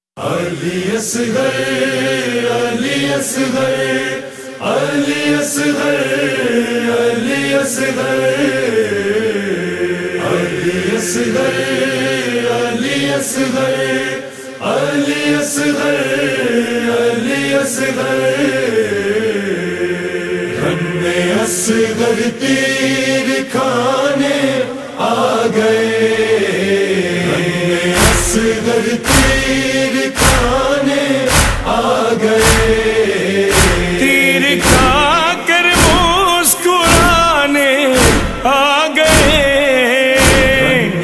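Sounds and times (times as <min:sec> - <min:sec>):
layered voices chanting: 0:00.2 - 0:41.0.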